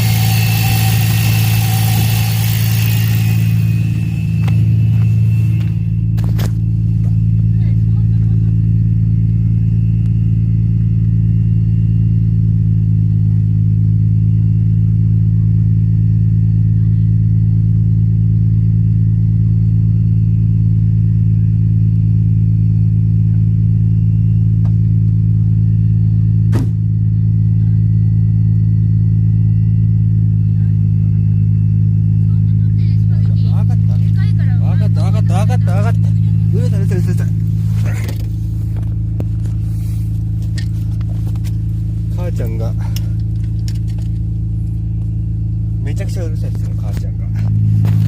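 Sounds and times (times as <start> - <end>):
car engine running loud: 0.0 - 48.0
strange engine noise: 0.0 - 48.0.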